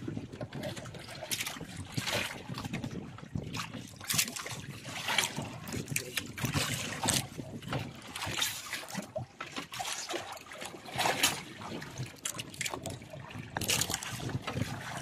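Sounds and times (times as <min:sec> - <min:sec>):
water splashing: 0:00.5 - 0:15.0.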